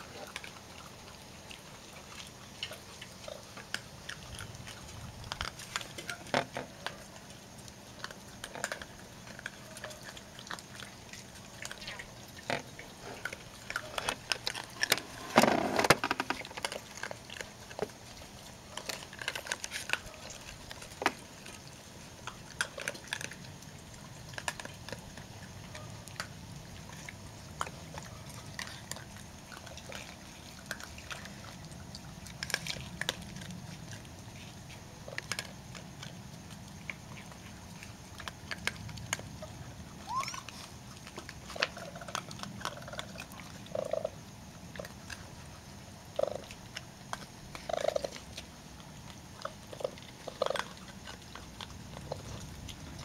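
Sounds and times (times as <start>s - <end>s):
raccoons chewing and crunching: 0.0s - 53.0s.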